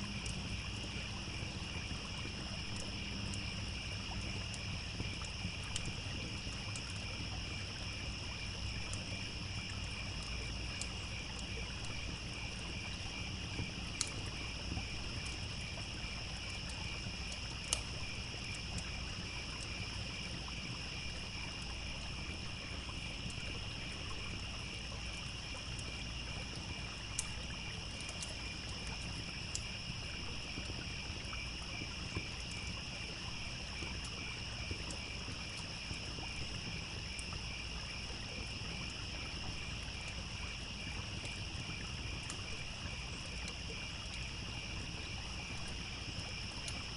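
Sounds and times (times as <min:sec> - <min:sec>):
campfire crackling: 0:00.0 - 0:46.9
crickets chirping: 0:00.0 - 0:46.9.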